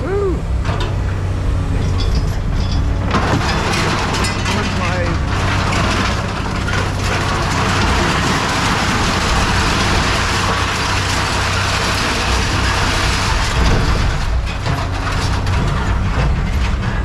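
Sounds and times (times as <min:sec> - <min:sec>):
heavy machinery running: 0:00.0 - 0:17.0
low engine drone: 0:00.0 - 0:17.0.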